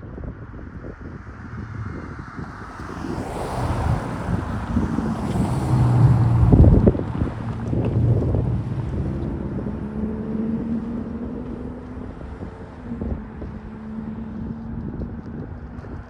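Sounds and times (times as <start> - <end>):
wind on microphone: 0.0 - 16.0
low engine drone: 0.6 - 16.0.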